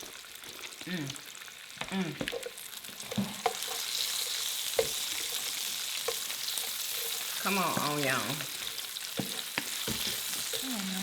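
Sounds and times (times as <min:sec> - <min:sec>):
burgers sizzling on grill: 0:00.0 - 0:11.0.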